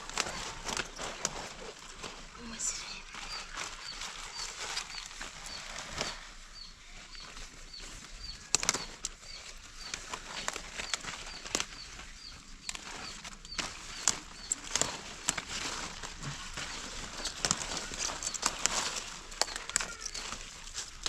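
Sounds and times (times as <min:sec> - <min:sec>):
rustling: 0:00.0 - 0:21.0
bird chirping: 0:02.4 - 0:20.5.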